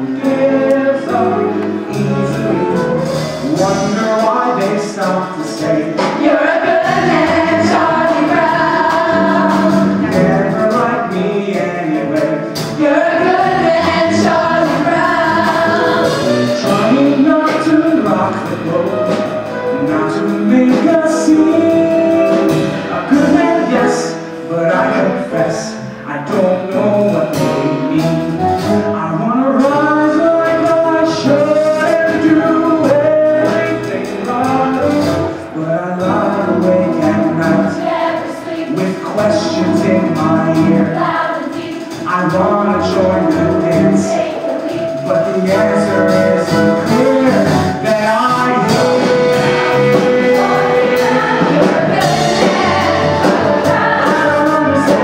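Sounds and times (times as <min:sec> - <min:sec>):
cast singing together: 0:00.0 - 0:25.8, 0:29.7 - 0:55.0
pit orchestra playing: 0:00.0 - 0:55.0.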